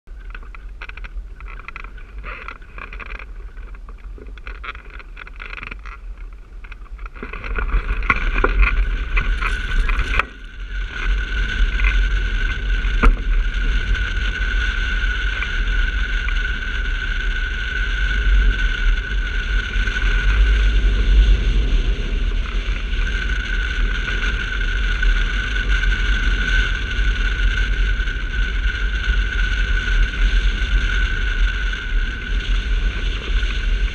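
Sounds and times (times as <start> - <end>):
wind rumbling over glider: 0.1 - 33.9.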